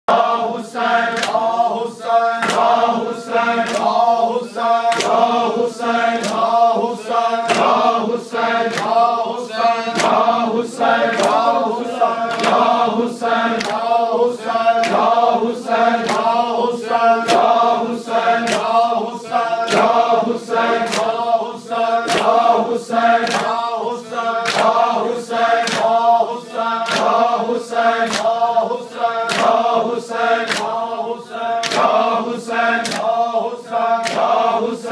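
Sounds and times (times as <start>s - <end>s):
men chanting in unison: 0.1s - 34.9s.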